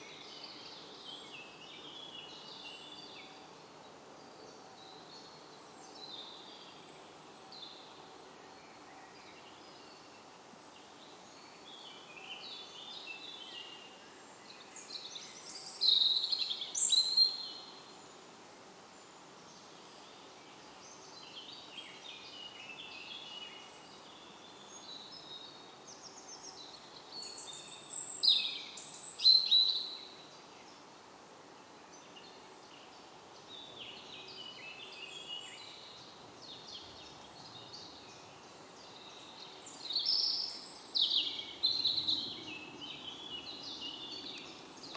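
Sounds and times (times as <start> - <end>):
bird singing loud rapid song: 0.0 - 44.9
songbirds chirping faintly: 0.0 - 44.9.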